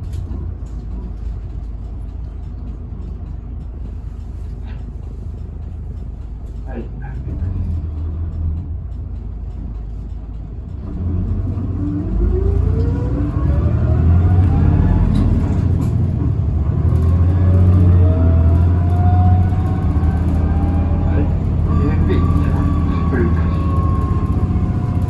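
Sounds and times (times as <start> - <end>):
bus motor whine rising: 0.0 - 25.0
low engine rumble: 0.0 - 25.0.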